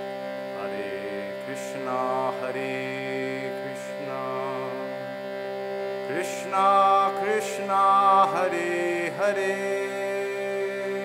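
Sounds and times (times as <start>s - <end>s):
reed box drone: 0.0s - 11.0s
man singing chant: 0.5s - 5.0s, 6.0s - 11.0s.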